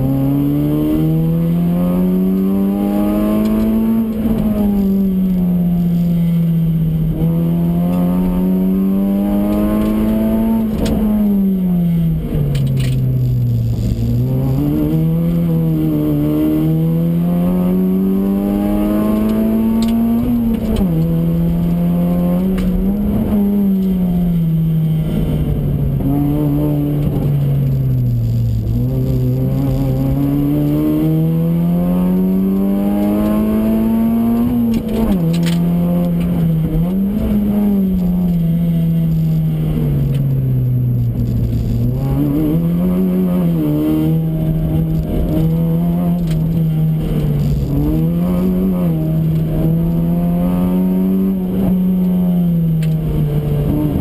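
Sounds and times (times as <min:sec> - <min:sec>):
car engine revving at full throttle: 0:00.0 - 0:54.0.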